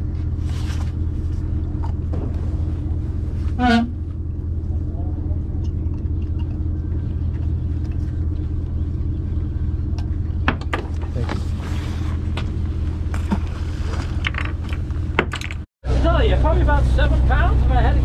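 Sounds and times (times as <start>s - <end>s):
boat engine drone: 0.0s - 15.2s, 15.8s - 18.0s.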